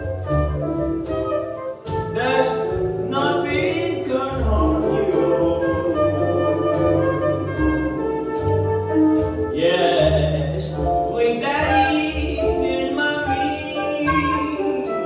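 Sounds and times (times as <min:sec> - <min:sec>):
flute melody: 0:00.0 - 0:15.0
recorded accompaniment with bass: 0:00.0 - 0:15.0.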